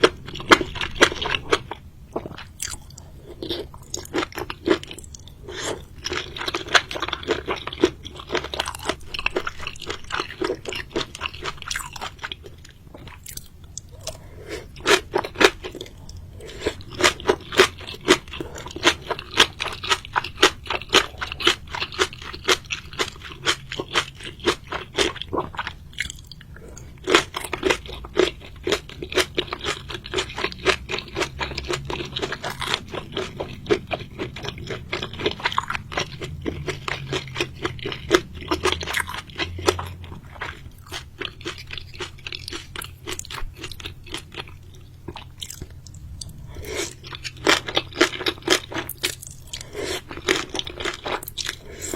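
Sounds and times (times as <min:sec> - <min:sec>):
chewing and crunching: 0:00.0 - 0:51.9.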